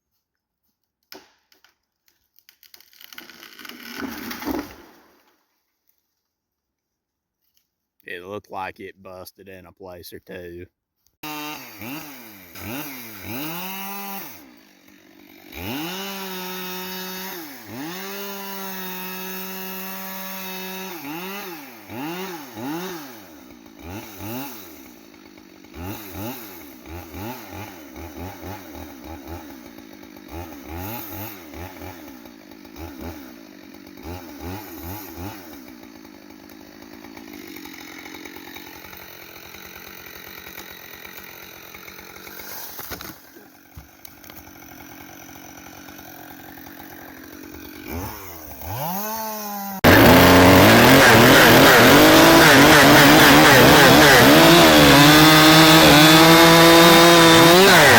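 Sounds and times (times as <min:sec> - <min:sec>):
chainsaw revving: 0:03.1 - 0:05.2, 0:11.2 - 0:57.9.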